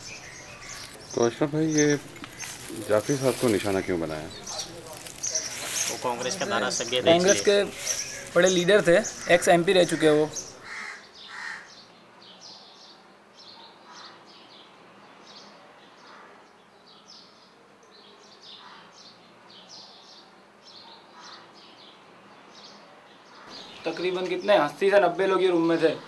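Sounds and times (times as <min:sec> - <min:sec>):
faint small birds chirping: 0:00.0 - 0:26.0.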